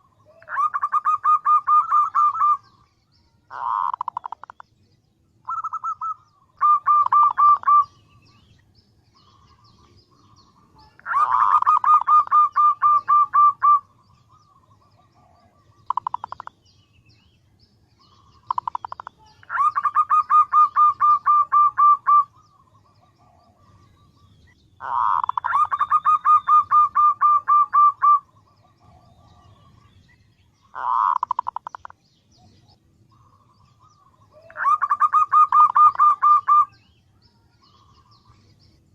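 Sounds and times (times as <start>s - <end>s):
dove cooing trills: 0.0s - 4.6s, 5.4s - 8.5s, 9.1s - 16.7s, 18.0s - 37.0s.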